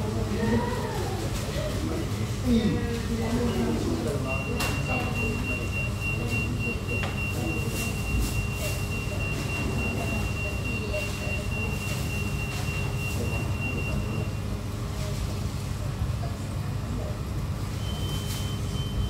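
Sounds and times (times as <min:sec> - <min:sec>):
dining room murmur: 0:00.0 - 0:19.0.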